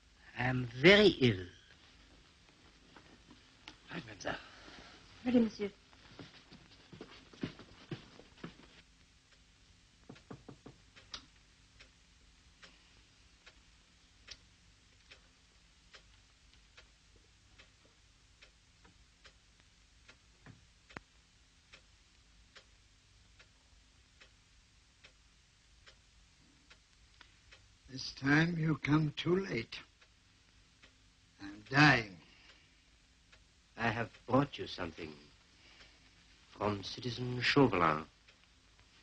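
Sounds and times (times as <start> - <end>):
clock ticking: 0.0 - 4.5, 5.2 - 39.0.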